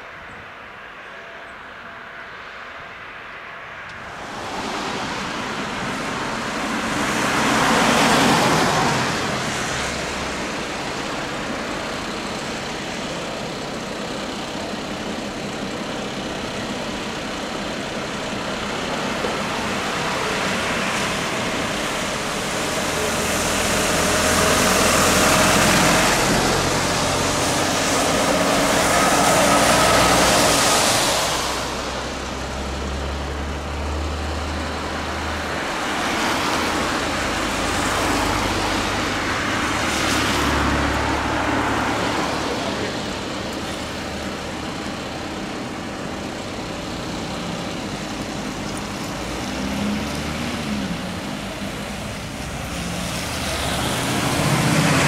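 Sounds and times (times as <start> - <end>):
bus engine rumbling: 0.0 - 55.0
cars passing with tyre hiss: 0.0 - 55.0.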